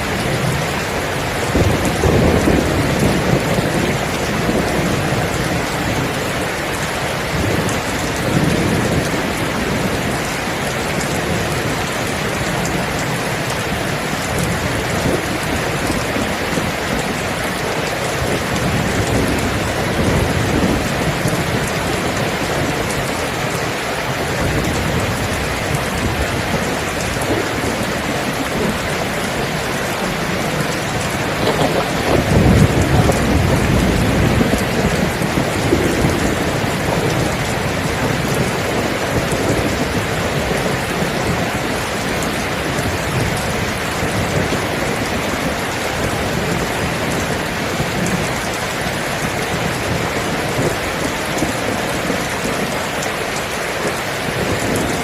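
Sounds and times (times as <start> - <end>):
low rumble of thunder: 0.0 - 6.5, 7.2 - 48.5
steady rain falling: 0.0 - 55.0.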